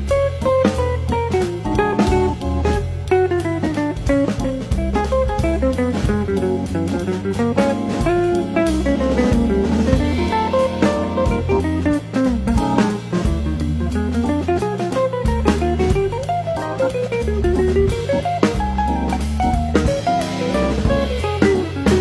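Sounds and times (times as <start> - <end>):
bass line: 0.0 - 22.0
drum-kit beat: 0.0 - 22.0
plucked guitar melody: 0.0 - 22.0.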